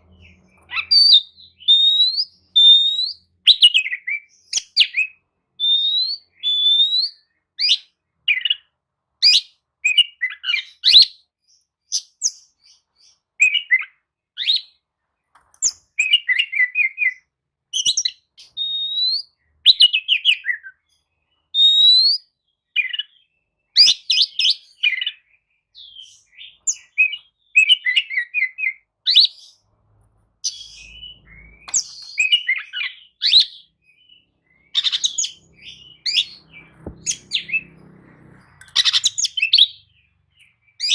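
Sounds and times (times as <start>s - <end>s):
bird singing whistled phrases: 0.1s - 8.6s, 9.2s - 11.2s, 13.4s - 14.7s, 15.6s - 17.2s, 17.8s - 20.8s, 21.5s - 25.2s, 25.8s - 29.5s, 30.4s - 40.9s.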